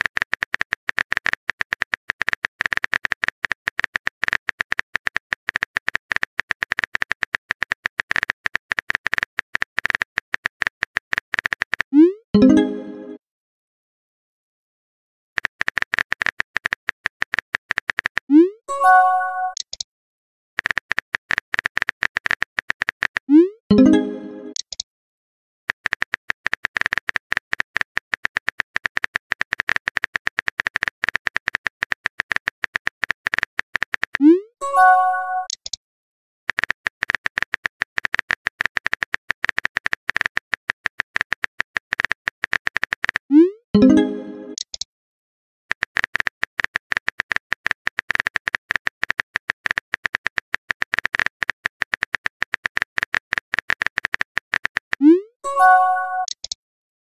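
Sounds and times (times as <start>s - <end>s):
phone keyboard typing clicks: 0.0s - 12.7s, 15.4s - 18.3s, 20.6s - 24.8s, 25.7s - 35.8s, 36.5s - 44.9s, 45.7s - 56.6s.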